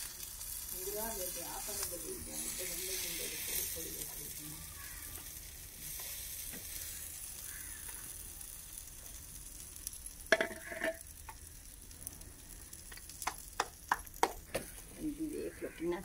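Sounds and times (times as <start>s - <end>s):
bread sizzling on a griddle: 0.0s - 16.0s.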